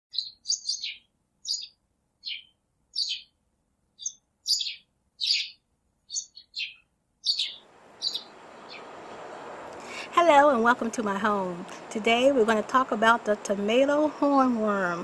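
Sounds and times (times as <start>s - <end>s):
songbird chirping: 0.1s - 15.0s.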